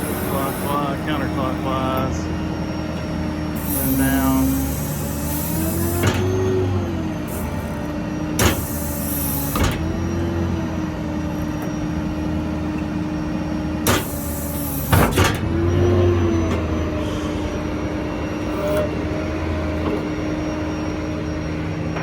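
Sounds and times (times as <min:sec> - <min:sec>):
diesel truck engine running: 0:00.0 - 0:22.0
hydraulic pump whining: 0:00.0 - 0:22.0.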